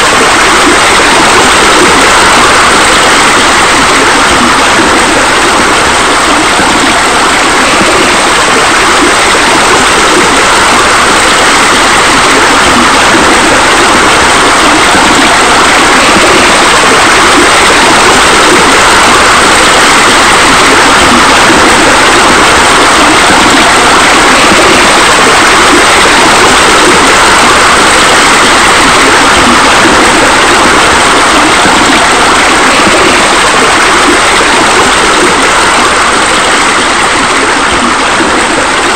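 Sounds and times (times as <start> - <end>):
water pouring into pool: 0.0 - 38.9.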